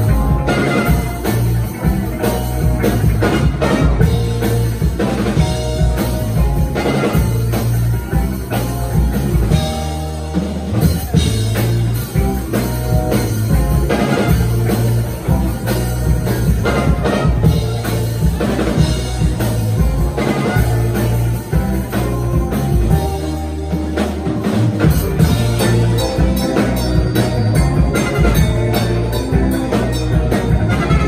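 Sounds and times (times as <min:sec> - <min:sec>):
live band playing loudly: 0:00.0 - 0:31.0.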